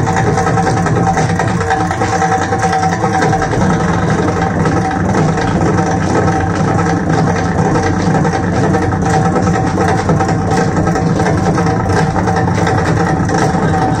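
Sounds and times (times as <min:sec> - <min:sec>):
fast hand drum strokes: 0:00.0 - 0:14.0
steady drone: 0:00.0 - 0:14.0.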